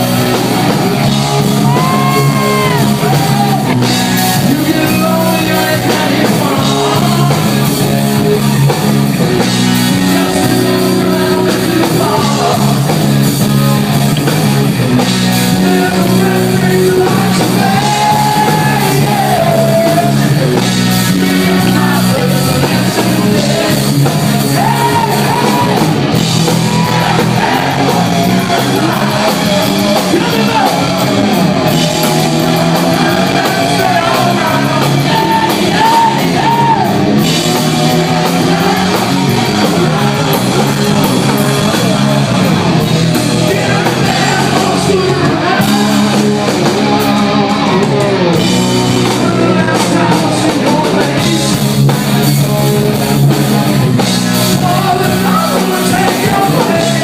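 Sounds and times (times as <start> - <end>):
person singing: 0.0 - 8.7, 9.4 - 14.0, 15.3 - 57.0
live rock band: 0.0 - 57.0.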